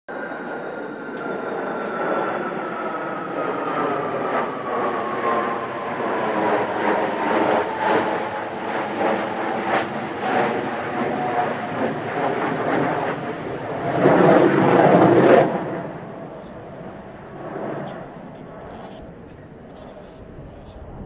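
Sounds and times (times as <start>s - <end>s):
jets roaring overhead: 0.1s - 21.0s.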